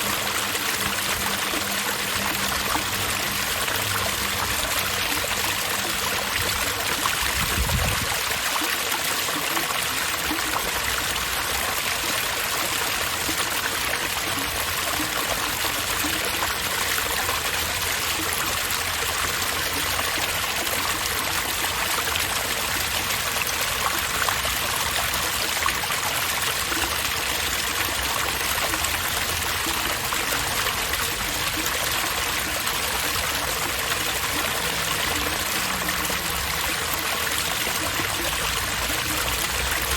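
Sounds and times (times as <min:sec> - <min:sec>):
water splashing from outdoor tap: 0:00.0 - 0:39.9.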